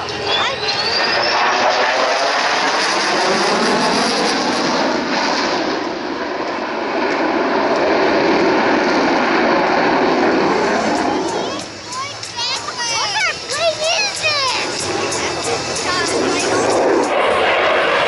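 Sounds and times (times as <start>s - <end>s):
fighter jet engine roaring: 0.0s - 18.0s.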